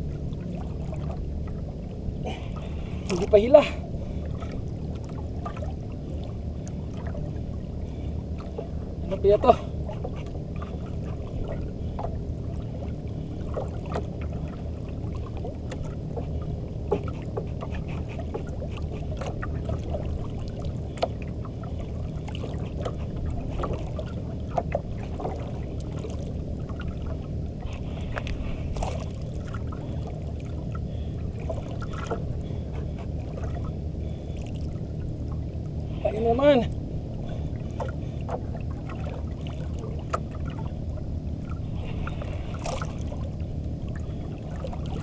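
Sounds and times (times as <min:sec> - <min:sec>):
boat low rumble: 0:00.0 - 0:45.0
water sloshing against hull: 0:00.0 - 0:45.0.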